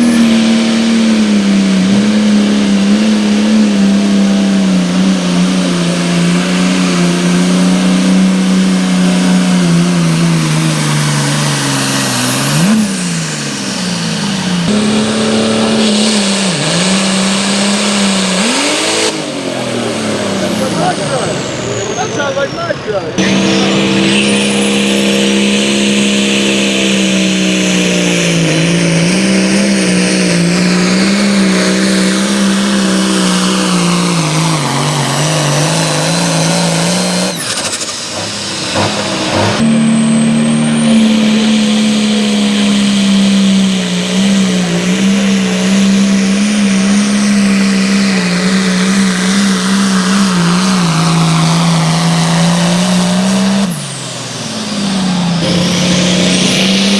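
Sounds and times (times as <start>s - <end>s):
pulling vehicle engine revving: 0.0s - 56.9s.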